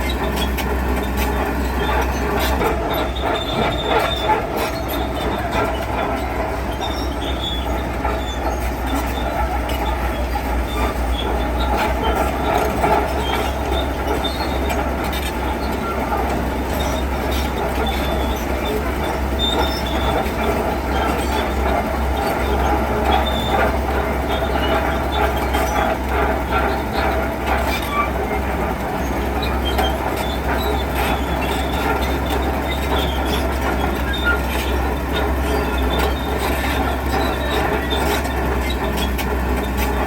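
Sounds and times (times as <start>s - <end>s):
diesel machinery running: 0.0s - 40.0s
metallic squealing: 0.0s - 40.0s.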